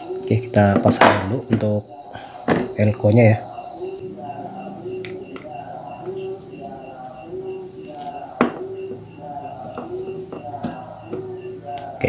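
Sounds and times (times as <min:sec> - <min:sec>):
crickets chirping: 0:00.0 - 0:12.0
low insect call: 0:00.0 - 0:12.0.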